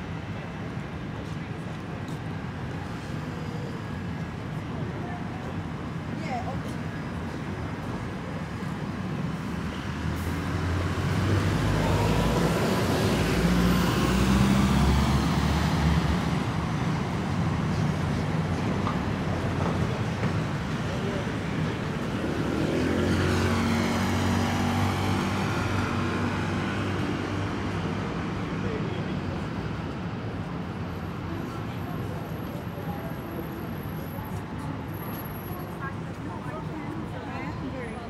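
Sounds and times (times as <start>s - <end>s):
city traffic: 0.0s - 38.0s.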